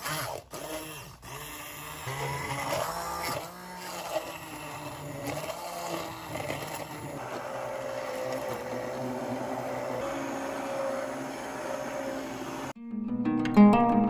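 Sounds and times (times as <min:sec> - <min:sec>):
immersion blender motor humming: 0:00.0 - 0:12.8.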